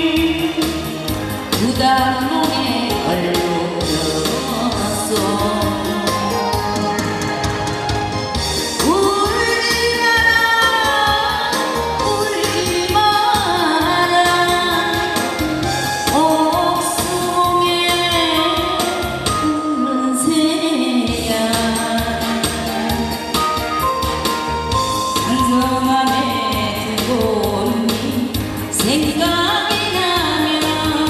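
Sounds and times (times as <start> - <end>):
woman singing into microphone: 0.0 - 23.7, 24.8 - 31.0
instrumental accompaniment: 0.0 - 31.0.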